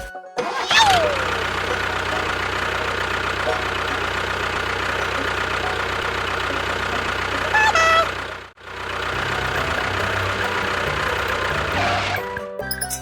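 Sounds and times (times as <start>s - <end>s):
tractor engine idling: 0.4s - 13.0s.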